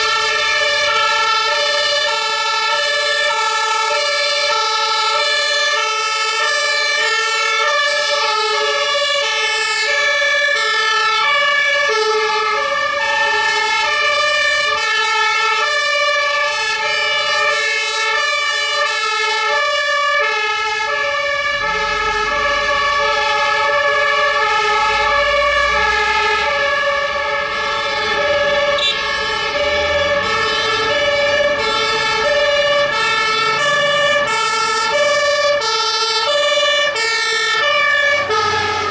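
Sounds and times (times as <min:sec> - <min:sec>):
two-tone emergency sirens: 0:00.0 - 0:38.9.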